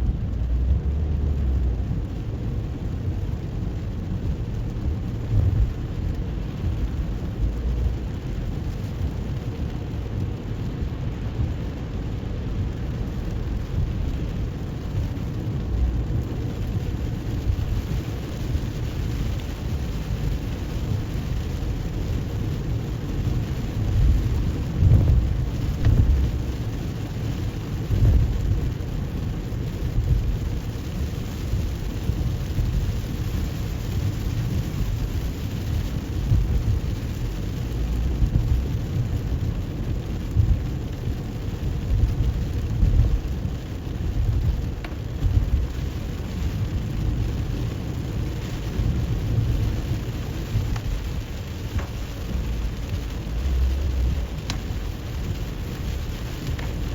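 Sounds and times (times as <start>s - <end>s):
car tyres and engine rumbling: 0.0s - 56.9s
rain hiss: 0.0s - 56.9s.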